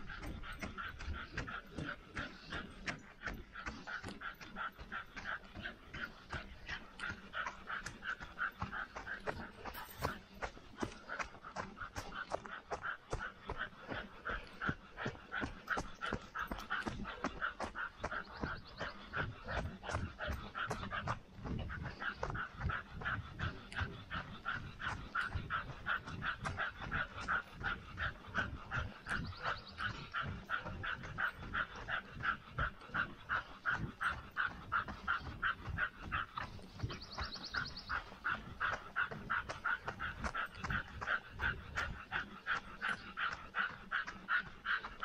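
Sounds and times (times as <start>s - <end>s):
dog panting: 0.0s - 45.0s.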